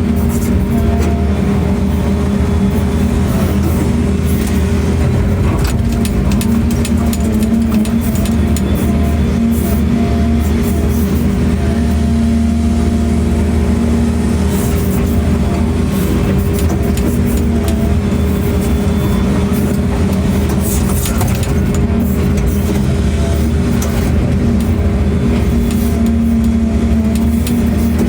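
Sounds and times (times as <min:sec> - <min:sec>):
low engine drone: 0:00.0 - 0:28.0.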